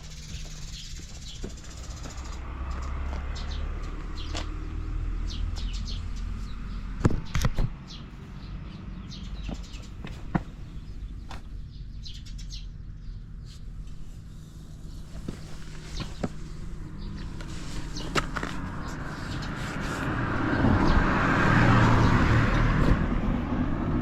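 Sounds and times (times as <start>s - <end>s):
motorcycle engine rumbling: 0.0s - 4.6s, 6.1s - 24.0s
birds chirping: 0.0s - 23.0s.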